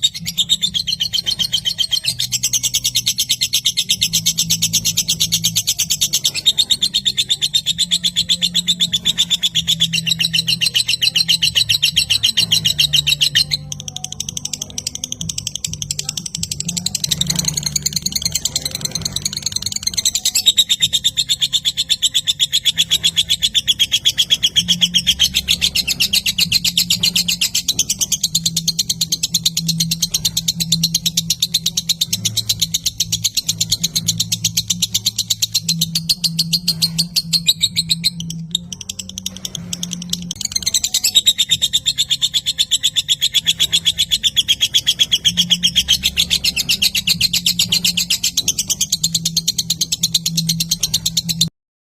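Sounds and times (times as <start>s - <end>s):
lovebird chattering song: 0.0s - 51.5s.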